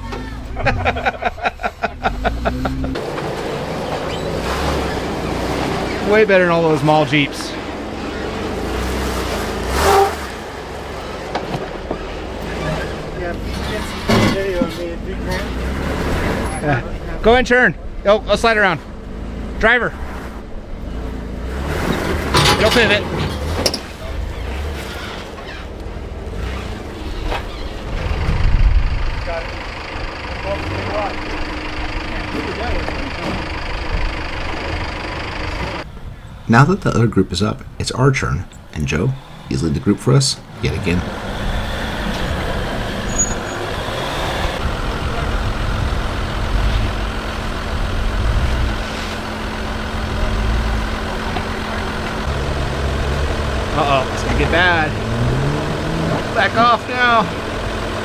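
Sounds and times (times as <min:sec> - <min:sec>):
off-road engine rumbling: 0:00.0 - 0:58.0.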